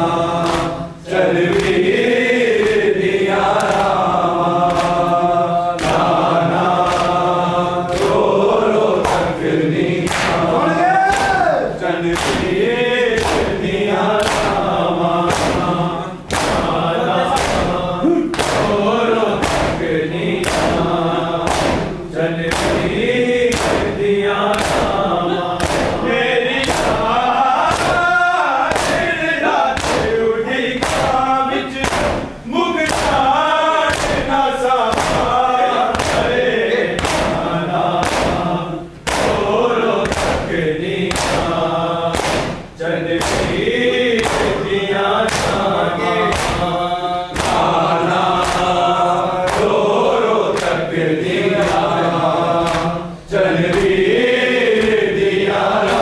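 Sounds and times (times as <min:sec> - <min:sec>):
men chanting in chorus: 0:00.0 - 0:56.0
hands slapping chests: 0:00.4 - 0:00.8, 0:01.4 - 0:05.2, 0:05.8 - 0:30.2, 0:30.8 - 0:31.2, 0:31.8 - 0:45.7, 0:46.3 - 0:46.7, 0:47.3 - 0:50.9, 0:51.5 - 0:53.0, 0:53.6 - 0:56.0.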